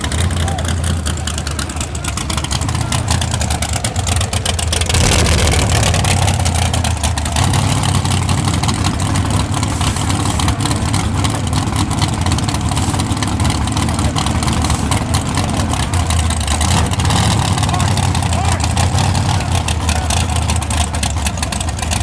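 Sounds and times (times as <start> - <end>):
crackling exhaust: 0.0 - 22.0
race truck engines: 0.0 - 22.0.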